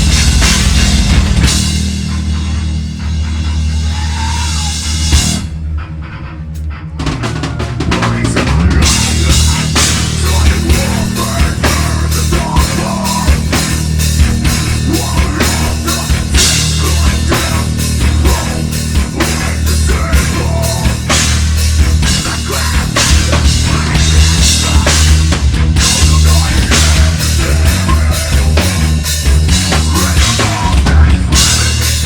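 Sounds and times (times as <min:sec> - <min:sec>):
bass guitar: 0:00.0 - 0:32.0
distorted guitars: 0:00.0 - 0:32.0
drum kit: 0:00.0 - 0:32.0.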